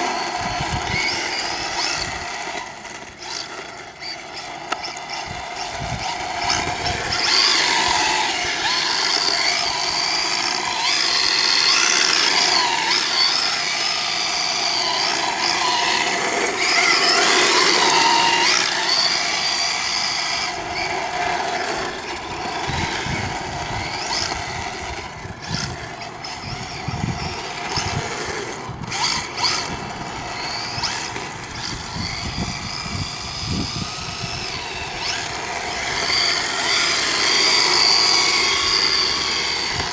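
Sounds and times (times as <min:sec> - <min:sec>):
rc car motor whining: 0:00.0 - 0:39.9.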